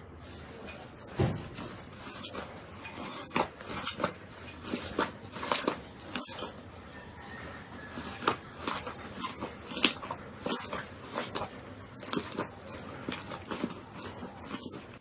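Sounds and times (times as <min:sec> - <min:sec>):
slime squishing and crackling: 0:01.6 - 0:06.6, 0:07.3 - 0:15.0.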